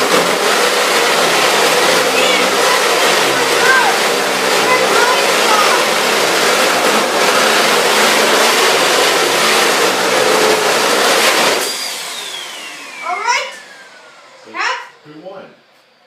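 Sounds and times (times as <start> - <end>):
vacuum cleaner running: 0.0 - 16.0
motor whine spinning down: 1.0 - 16.0.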